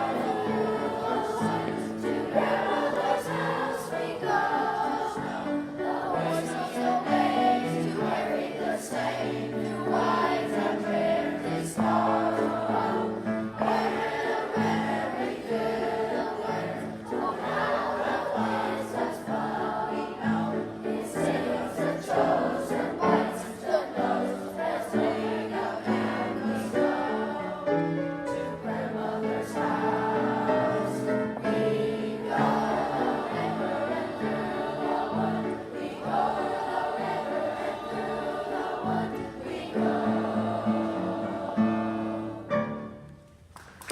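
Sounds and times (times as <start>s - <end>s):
children's choir singing: 0.0s - 43.2s
musical backing: 0.0s - 43.9s.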